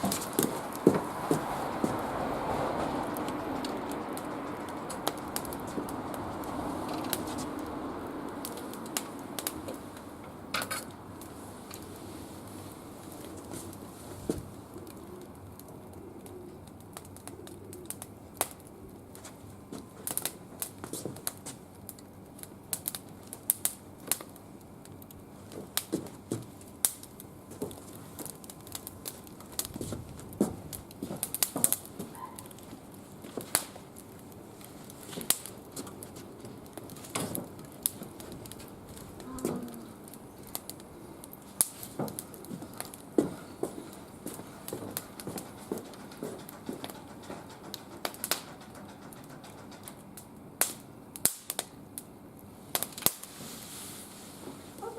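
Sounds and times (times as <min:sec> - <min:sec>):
wood fire crackling: 0:00.0 - 0:54.9
sharp snaps and pops: 0:03.1 - 0:12.0, 0:13.2 - 0:47.0, 0:49.8 - 0:53.4.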